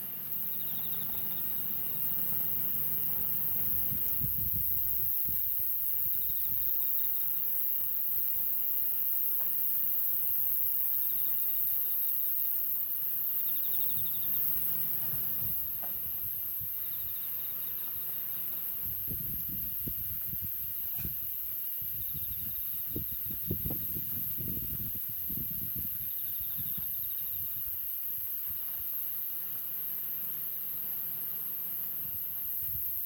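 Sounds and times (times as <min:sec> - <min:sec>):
crickets calling: 0:00.0 - 0:33.0
pulsed insect trills: 0:00.0 - 0:33.0.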